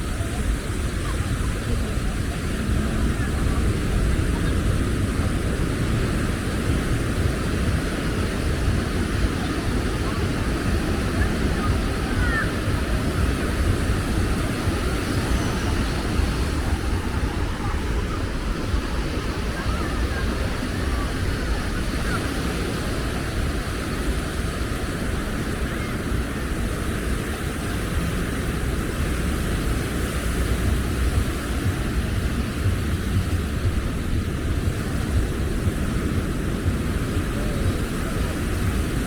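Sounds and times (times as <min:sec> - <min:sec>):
beach surf: 0:00.0 - 0:39.0
faint distant voices: 0:00.0 - 0:39.0
wind buffeting microphone: 0:00.0 - 0:39.0.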